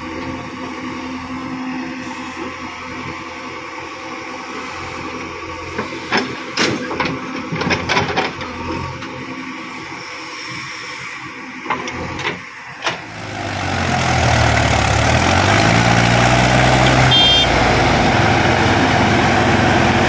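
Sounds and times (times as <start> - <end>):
diesel engine running under load: 0.0 - 20.0.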